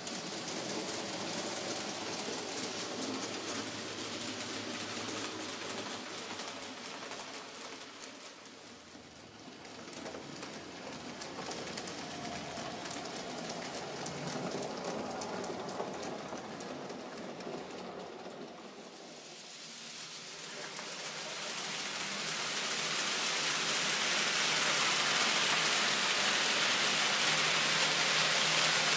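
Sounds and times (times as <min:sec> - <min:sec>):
model train wheels rattling on rail: 0:00.0 - 0:28.9.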